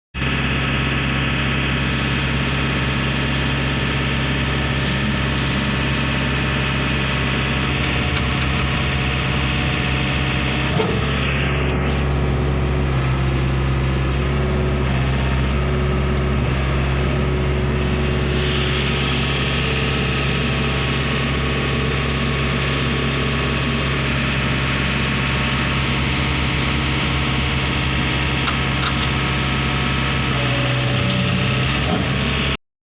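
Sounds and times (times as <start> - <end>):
engine running steadily: 0.2 - 32.6.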